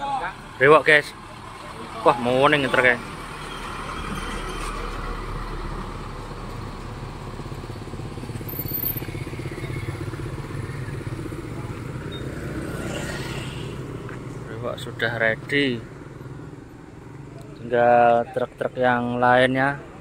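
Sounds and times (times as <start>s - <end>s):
motorcycles passing: 0.0s - 20.0s.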